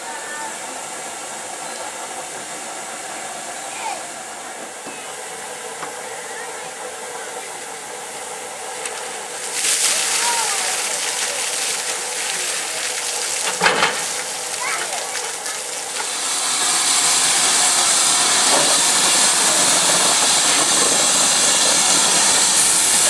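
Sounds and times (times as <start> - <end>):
steam hissing: 0.0 - 23.0.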